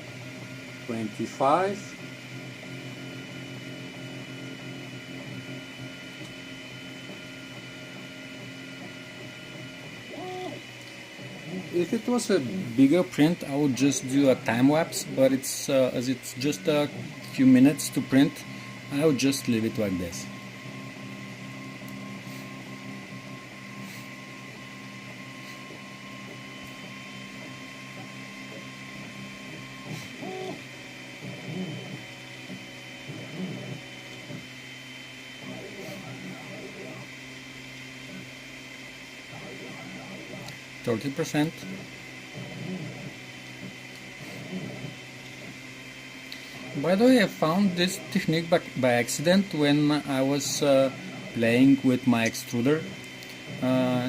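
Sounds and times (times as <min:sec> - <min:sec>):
steady whine: 0:00.0 - 0:54.0
stepper motors whirring: 0:00.0 - 0:54.0.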